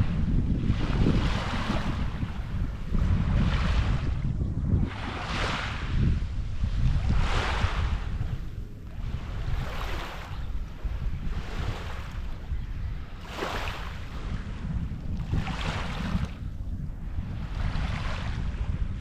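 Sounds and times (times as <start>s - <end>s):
small waves washing ashore: 0.0s - 4.2s, 4.8s - 19.0s
wind rumbling on microphone: 0.0s - 19.0s.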